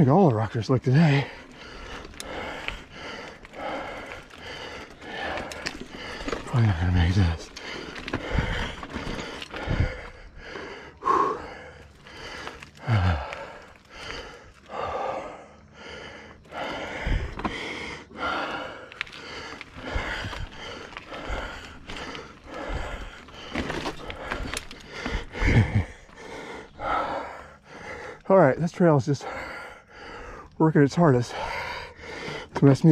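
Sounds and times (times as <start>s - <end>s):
heavy labored breathing: 0.0s - 32.9s.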